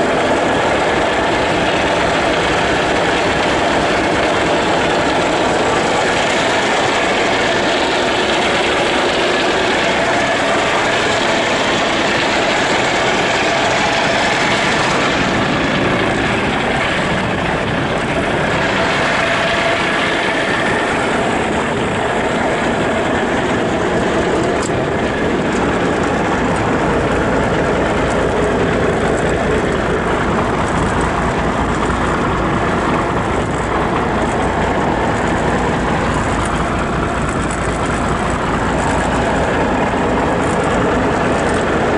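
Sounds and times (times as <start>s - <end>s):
diesel truck engine idling: 0.0s - 41.9s.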